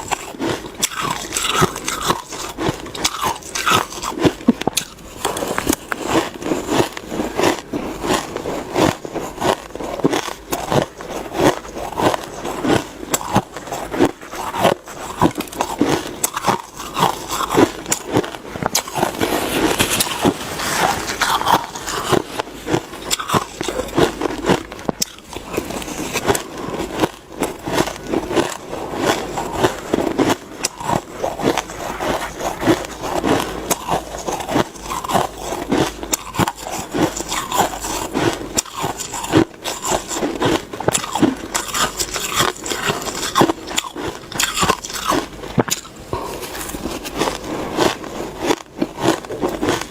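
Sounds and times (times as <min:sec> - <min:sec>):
shaved ice crunching: 0:00.1 - 0:49.9.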